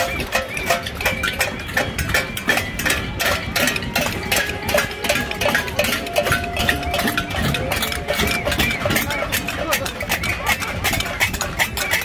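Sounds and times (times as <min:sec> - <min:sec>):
pots and pans banging: 0:00.0 - 0:12.0.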